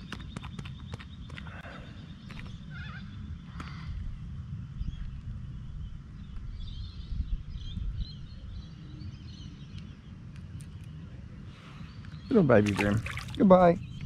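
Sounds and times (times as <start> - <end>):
birds chirping faintly: 0.0 - 14.0
low steady rumble: 1.9 - 14.0.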